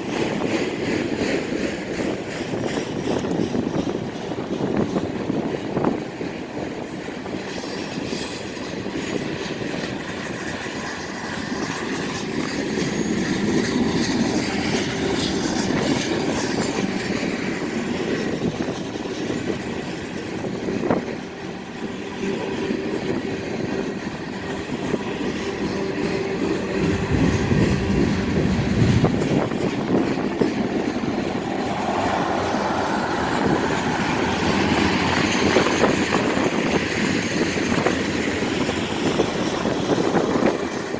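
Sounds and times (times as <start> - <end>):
freight train rumbling on rails: 0.0 - 40.9.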